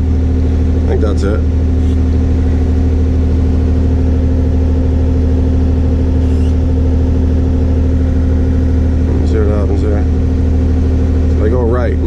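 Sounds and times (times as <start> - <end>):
diesel excavator engine humming: 0.0 - 12.0.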